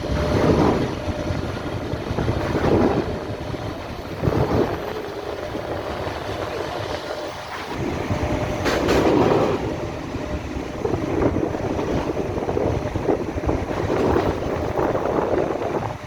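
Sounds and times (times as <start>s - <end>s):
outdoor rumble: 0.0s - 16.0s
wind buffeting microphone: 0.0s - 16.0s.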